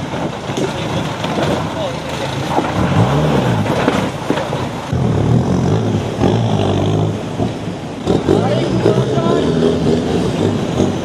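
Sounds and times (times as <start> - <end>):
engine revving: 2.0 - 11.0.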